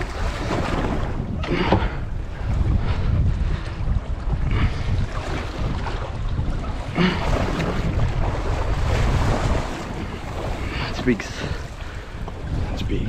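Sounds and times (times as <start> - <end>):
waves washing against boat hull: 0.0 - 13.0
wind buffeting microphone: 0.0 - 13.0.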